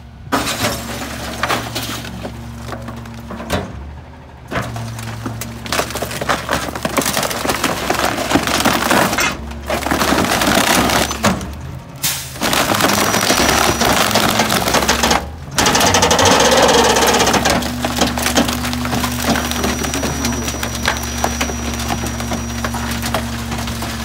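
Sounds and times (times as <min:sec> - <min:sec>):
truck engine drone: 0:00.0 - 0:24.0
wood cracking and splintering: 0:04.5 - 0:24.0.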